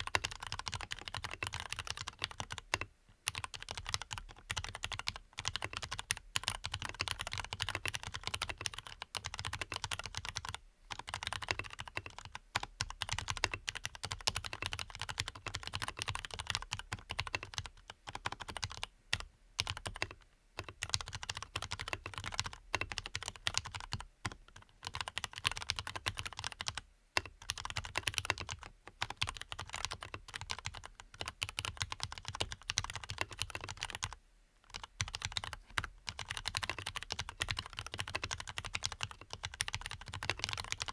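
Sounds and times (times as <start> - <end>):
fast muted mechanical keyboard typing: 0.0 - 40.9.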